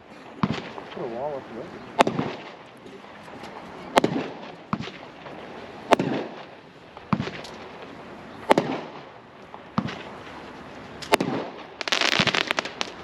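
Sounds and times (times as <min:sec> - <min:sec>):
firework bangs: 0:00.0 - 0:13.0
firework crackle: 0:00.0 - 0:13.0.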